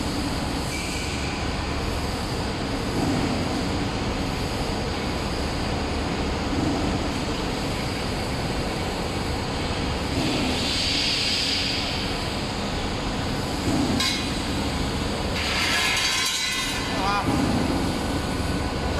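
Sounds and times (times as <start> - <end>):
roll forming machine rumble: 0.0 - 18.9.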